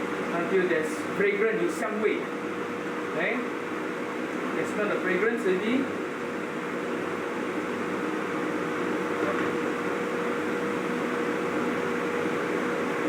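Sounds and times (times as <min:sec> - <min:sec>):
extractor fan whirring: 0:00.0 - 0:13.0.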